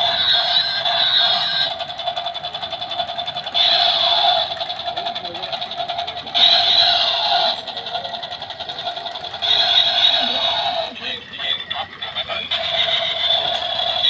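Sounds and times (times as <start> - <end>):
toy helicopter rotor chop: 0.0 - 14.0.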